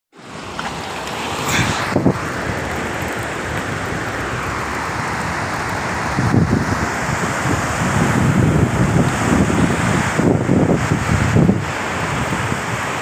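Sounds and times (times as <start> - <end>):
floodwater rushing: 0.2 - 13.0
wind buffeting microphone: 0.3 - 13.0.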